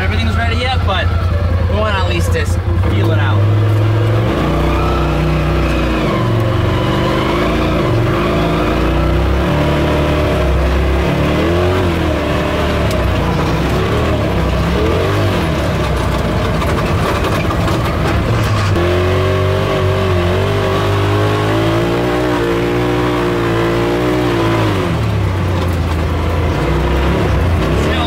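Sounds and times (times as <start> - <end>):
utility vehicle engine accelerating: 0.0 - 28.0.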